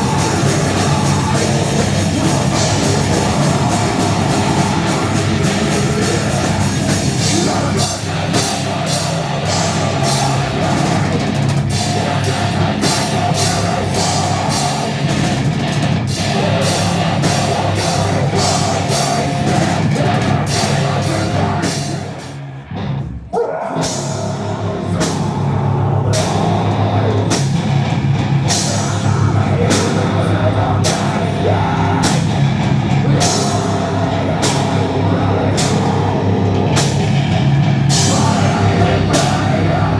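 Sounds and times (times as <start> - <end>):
drum kit beat: 0.0 - 22.5, 23.8 - 39.9
heavy metal band playing live: 0.0 - 39.9.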